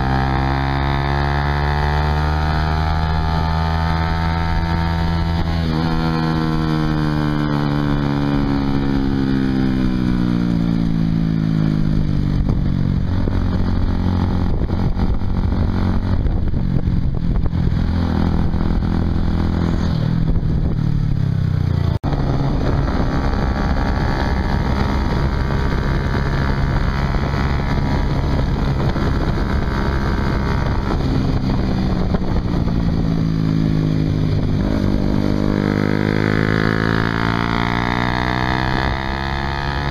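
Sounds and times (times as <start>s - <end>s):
motorcycle engine running: 0.0s - 39.9s
road noise: 0.0s - 39.9s
rushing wind: 0.0s - 39.9s.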